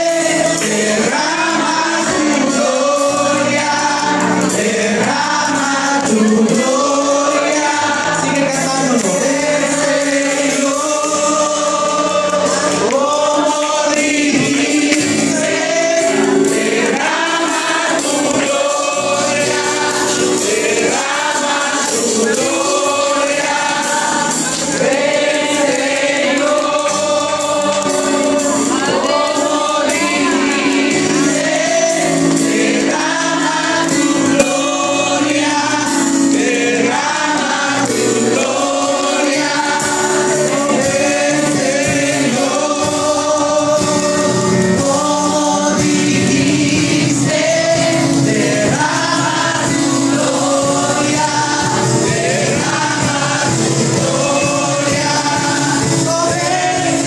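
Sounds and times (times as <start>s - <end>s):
group of voices singing: 0.0s - 57.0s
instrumental accompaniment: 0.0s - 57.0s
man singing into a microphone: 0.0s - 57.0s.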